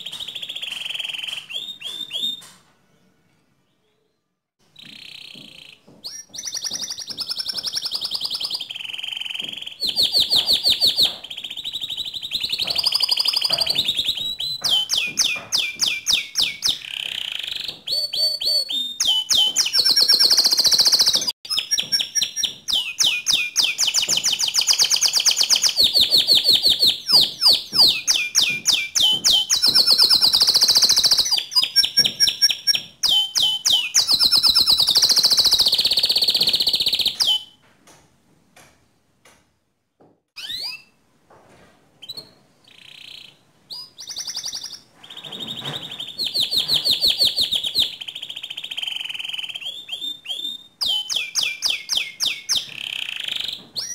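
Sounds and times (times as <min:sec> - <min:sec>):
canary singing trills: 0:00.0 - 0:02.6, 0:04.7 - 0:37.6, 0:42.0 - 0:53.9.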